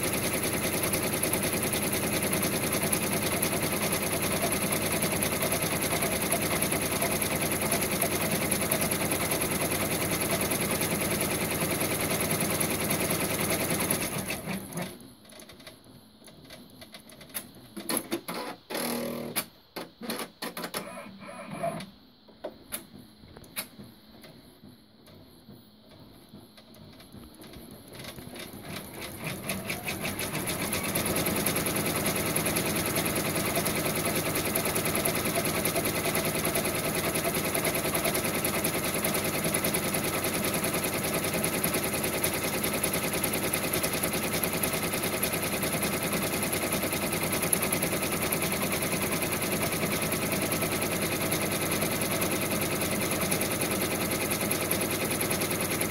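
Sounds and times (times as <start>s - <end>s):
embroidery machine stitching: 0.0s - 15.7s, 17.0s - 21.9s, 27.2s - 55.9s.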